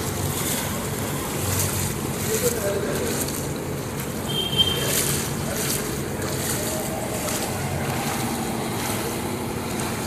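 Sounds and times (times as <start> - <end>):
traffic rumbling through water: 0.0 - 10.0
water sloshing from wading: 0.0 - 10.0.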